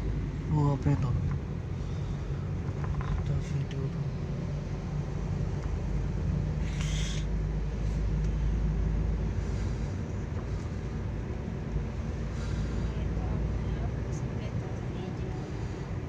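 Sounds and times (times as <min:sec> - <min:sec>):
engine and road rumble in car: 0:00.0 - 0:16.0.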